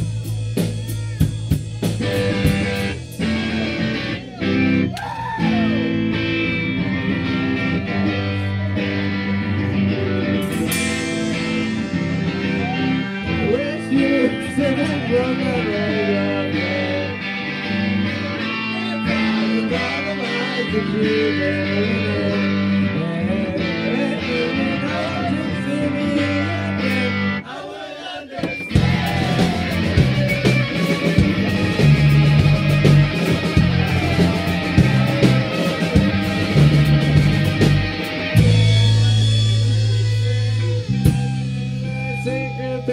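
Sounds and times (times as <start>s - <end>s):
electric guitar lead: 0.0s - 27.4s, 28.5s - 42.9s
live rock band playing: 0.0s - 27.4s, 28.4s - 42.9s.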